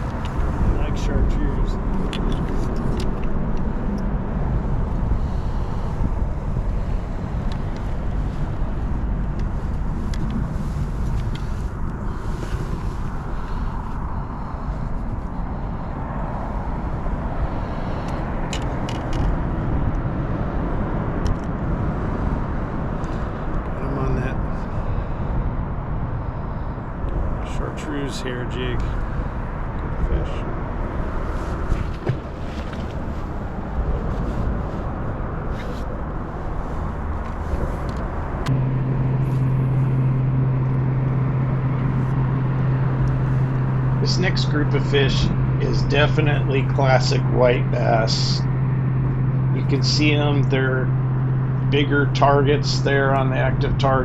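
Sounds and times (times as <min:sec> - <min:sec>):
steady low hum: 0:00.0 - 0:54.0
steady rushing noise: 0:00.0 - 0:54.0
wind rumble on microphone: 0:00.0 - 0:54.0.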